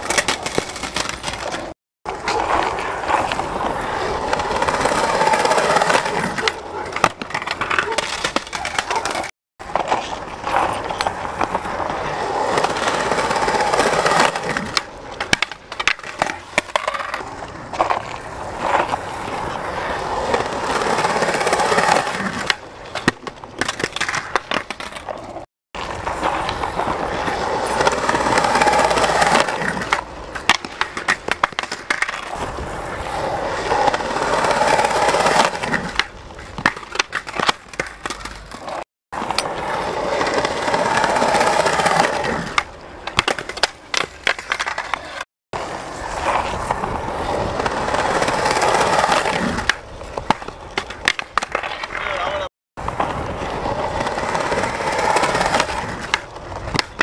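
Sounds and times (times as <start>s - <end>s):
skateboard clacks: 0.0s - 57.0s
skateboard wheels rolling on concrete: 0.0s - 57.0s.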